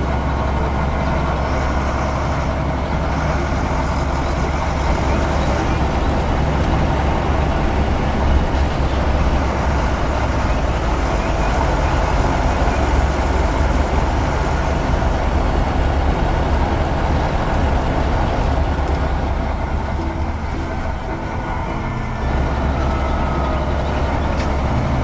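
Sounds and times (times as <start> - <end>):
heavy vehicle engine running: 0.0 - 25.0.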